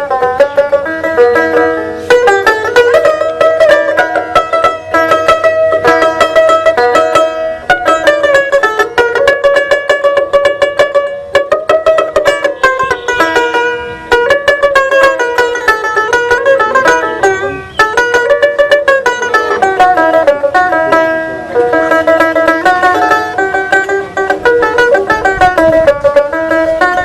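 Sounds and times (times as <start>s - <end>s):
plucked lute melody: 0.0s - 27.0s.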